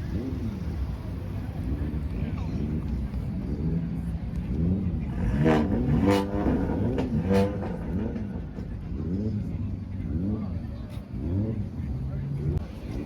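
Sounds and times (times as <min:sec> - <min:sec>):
car engine revving in blips: 0:00.0 - 0:13.0.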